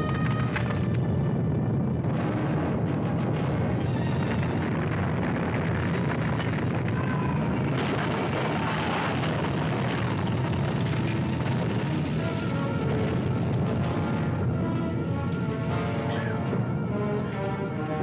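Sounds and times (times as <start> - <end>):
deep earthquake rumble: 0.0 - 17.5.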